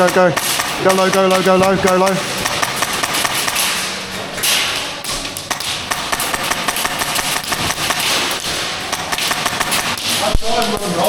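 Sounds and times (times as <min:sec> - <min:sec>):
airsoft gunfire: 0:00.0 - 0:10.5.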